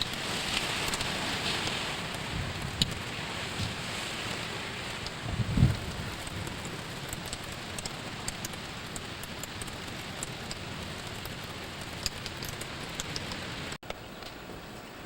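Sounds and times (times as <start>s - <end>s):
raindrops ticking nearby: 0.0s - 14.9s
steady rain falling: 0.0s - 15.0s.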